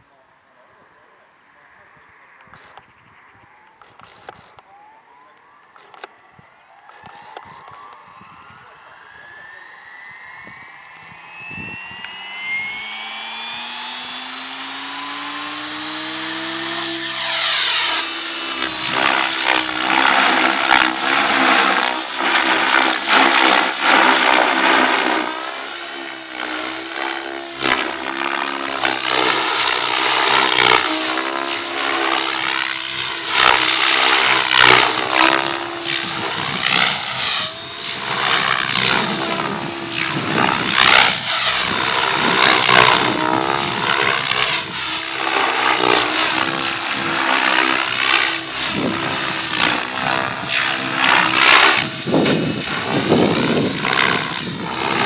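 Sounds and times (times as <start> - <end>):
rc helicopter motor and rotor whine: 2.1 - 55.0.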